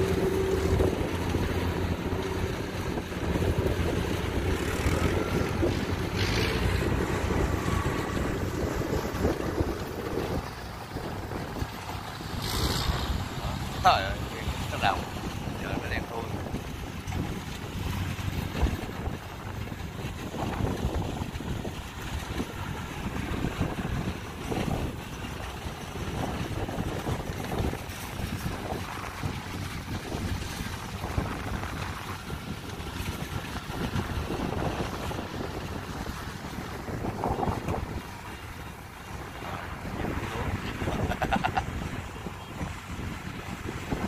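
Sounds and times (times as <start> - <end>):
combine harvester diesel engine: 0.0 - 44.0
wind buffeting microphone: 0.0 - 44.0.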